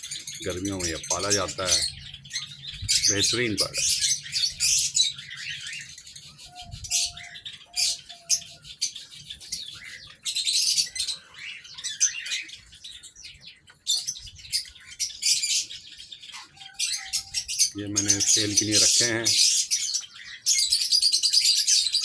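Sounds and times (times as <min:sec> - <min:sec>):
birds chirping: 0:00.0 - 0:22.0
low steady bird notes: 0:00.0 - 0:22.0.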